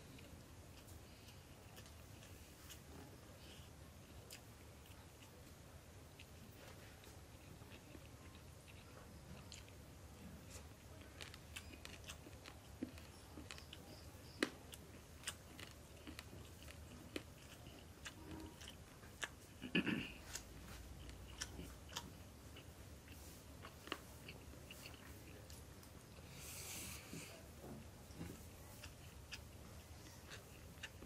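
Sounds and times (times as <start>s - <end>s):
man chewing food: 0.0s - 31.0s.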